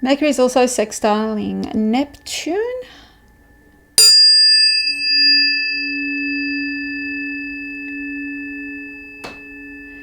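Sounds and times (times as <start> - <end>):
tuning fork ringing tone: 1.3 - 10.0
tuning fork strike: 1.4 - 10.0.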